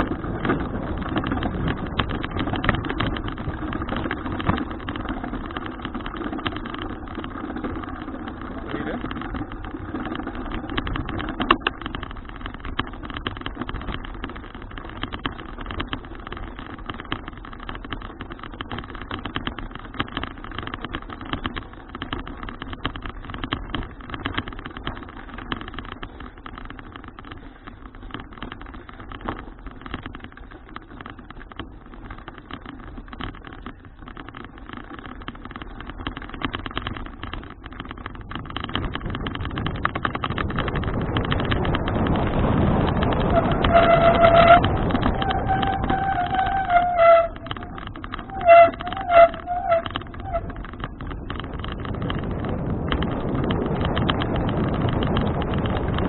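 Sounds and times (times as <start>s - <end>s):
bicycle rolling on road: 0.0s - 56.0s
small rattles and knocks: 0.0s - 56.0s.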